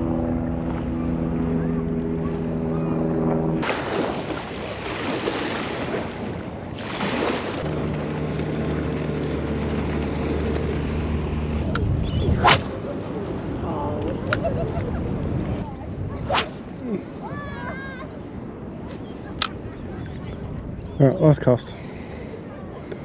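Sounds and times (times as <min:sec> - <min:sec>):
boat motor humming: 0:00.0 - 0:20.9
rush of wind and water: 0:00.0 - 0:22.9.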